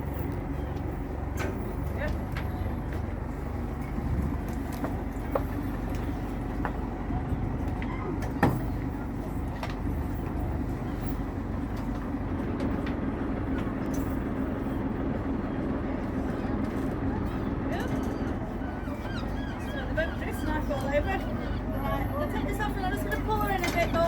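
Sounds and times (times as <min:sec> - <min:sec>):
boat engine low rumble: 0:00.0 - 0:24.0.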